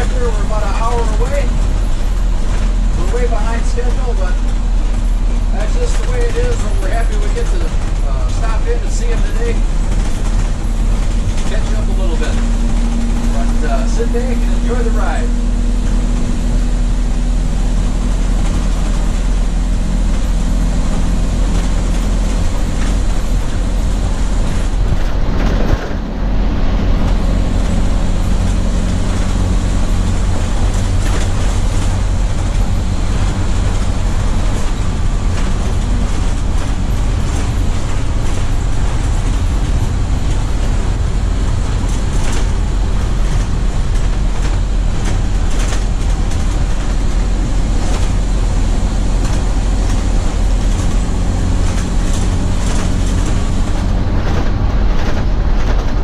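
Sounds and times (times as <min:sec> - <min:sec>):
bus engine running: 0:00.0 - 0:56.0
road and body noise: 0:00.0 - 0:56.0.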